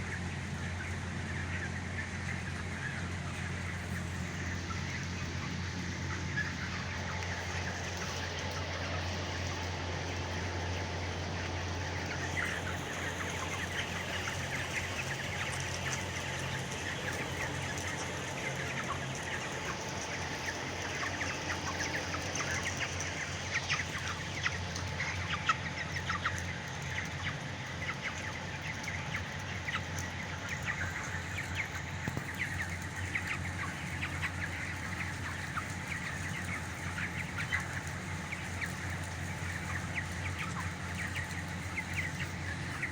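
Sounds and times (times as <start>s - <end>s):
chickens clucking: 0.0s - 42.9s
chicks peeping and chirping: 0.0s - 42.9s.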